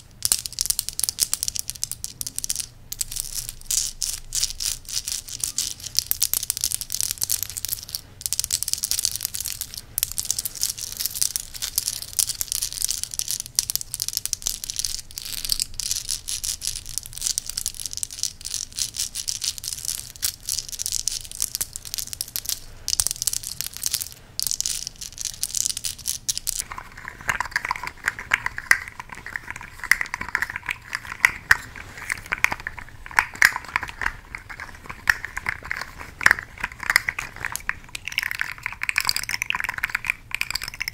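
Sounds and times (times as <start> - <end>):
necklace beads rattling and clicking: 0.0 - 40.9.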